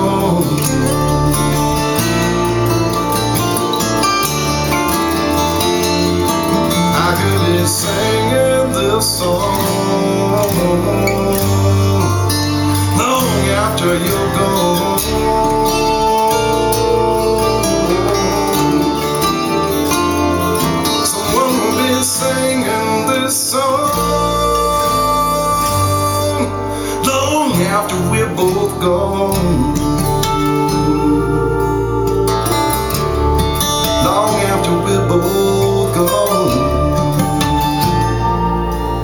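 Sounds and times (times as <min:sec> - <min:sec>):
guitar music over loudspeakers: 0:00.0 - 0:39.0.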